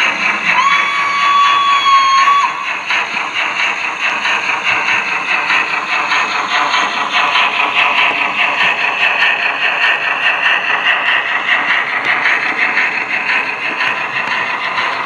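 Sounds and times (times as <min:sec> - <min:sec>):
model train wheels rattling on track: 0:00.0 - 0:15.0.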